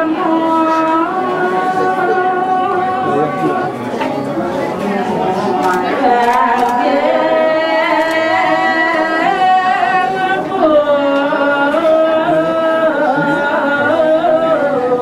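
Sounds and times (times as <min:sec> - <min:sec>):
slow chant-like singing: 0:00.0 - 0:04.0, 0:05.0 - 0:15.0.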